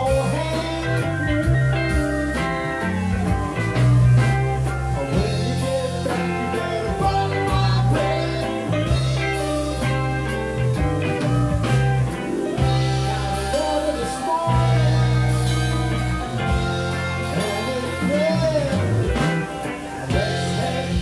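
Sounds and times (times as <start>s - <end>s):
harmonica: 0.0s - 21.0s
live blues rock band: 0.0s - 21.0s.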